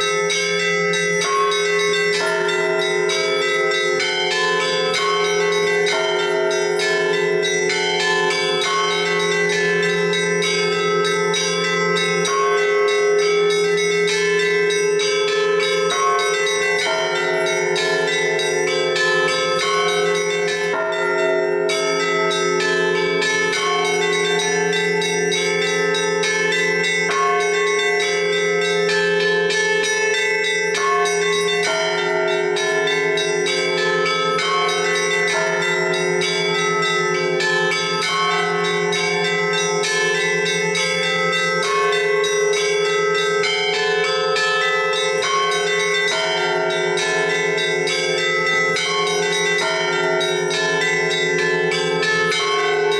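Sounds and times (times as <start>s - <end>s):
large bells humming: 0.0s - 52.9s
small bells chiming: 0.0s - 52.9s.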